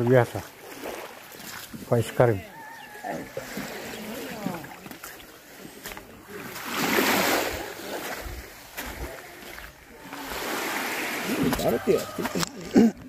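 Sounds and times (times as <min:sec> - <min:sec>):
seawater washing and splashing: 0:00.0 - 0:13.0.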